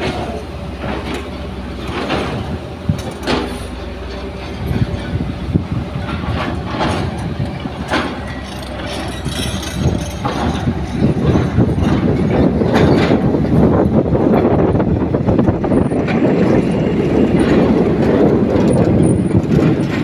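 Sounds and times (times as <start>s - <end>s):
excavator diesel engine rumbling: 0.0s - 20.0s.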